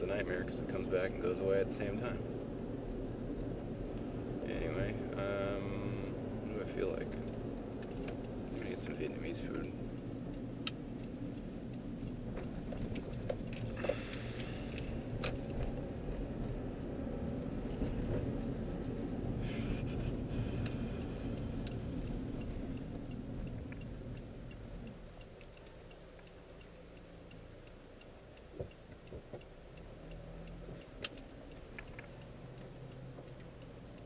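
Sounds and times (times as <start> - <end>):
road and engine noise: 0.0 - 34.0
turn signal ticking: 0.0 - 34.0.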